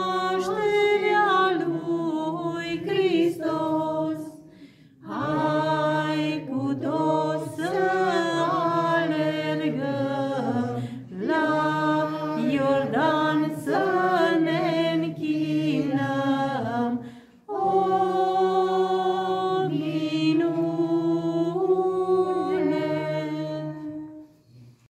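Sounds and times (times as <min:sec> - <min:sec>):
woman singing chant-like carol: 0:00.0 - 0:04.4, 0:05.0 - 0:24.3.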